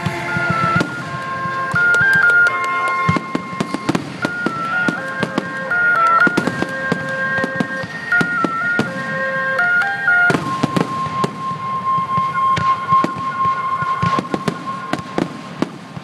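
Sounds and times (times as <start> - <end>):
simple melody in held notes: 0.0 - 15.2
fireworks bangs and crackles: 0.0 - 16.0.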